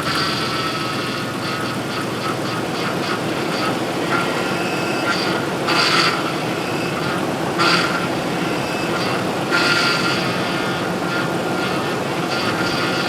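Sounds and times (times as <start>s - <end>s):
engine running: 0.0s - 13.0s
power steering pump whining: 0.0s - 13.0s.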